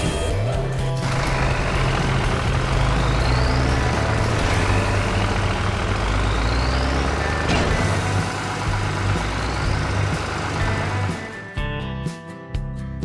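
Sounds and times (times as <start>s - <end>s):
excavator engine humming: 0.9s - 11.5s.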